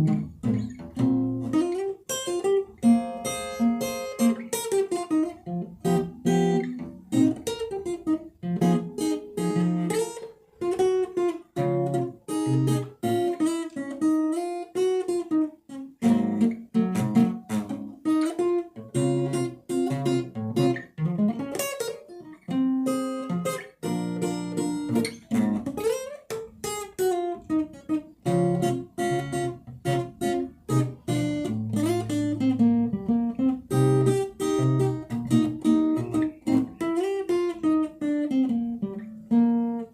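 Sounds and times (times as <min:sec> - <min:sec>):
acoustic guitar playing: 0:00.0 - 0:39.9.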